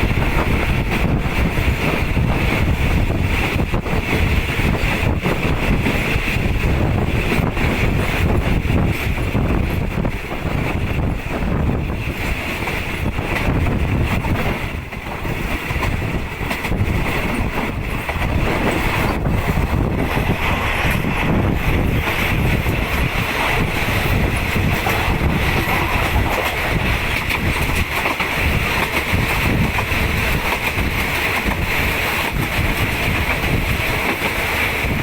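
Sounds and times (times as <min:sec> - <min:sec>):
train rumble: 0:00.0 - 0:35.0
wind buffeting microphone: 0:00.0 - 0:35.0.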